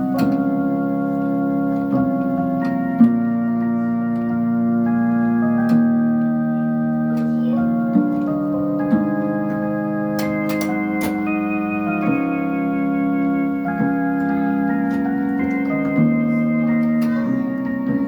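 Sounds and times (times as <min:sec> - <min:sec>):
electronic organ playing hymn chords: 0:00.0 - 0:18.0.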